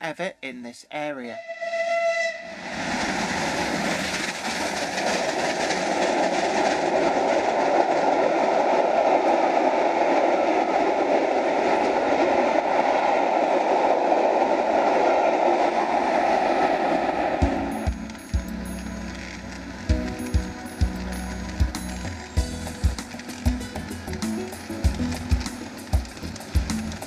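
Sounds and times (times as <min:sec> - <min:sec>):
steam train rushing past: 0:01.6 - 0:27.0
coaches rolling on rails: 0:02.6 - 0:27.0.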